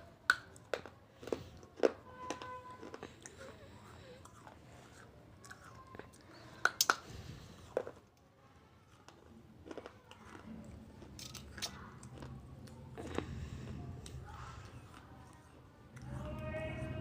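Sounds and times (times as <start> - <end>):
person chewing and biting: 0.3 - 8.1, 8.9 - 15.4.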